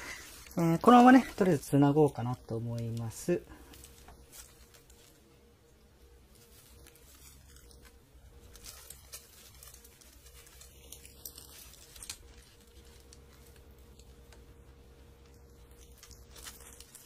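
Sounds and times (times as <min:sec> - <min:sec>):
gloved hands rustling: 0:00.0 - 0:17.0.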